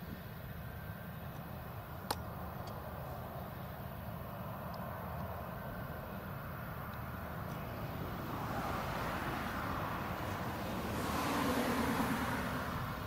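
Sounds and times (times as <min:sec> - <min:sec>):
distant combine harvester drone: 0:00.0 - 0:13.0.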